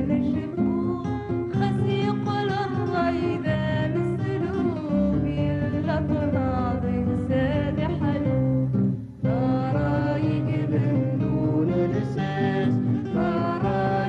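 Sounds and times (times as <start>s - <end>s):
guitar accompaniment: 0.0s - 14.0s
woman singing: 0.0s - 14.0s.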